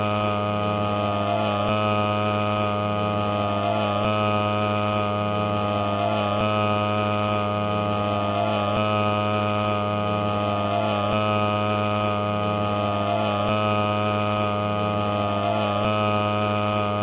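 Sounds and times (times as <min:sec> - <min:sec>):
loud buzzing hum: 0:00.0 - 0:17.0.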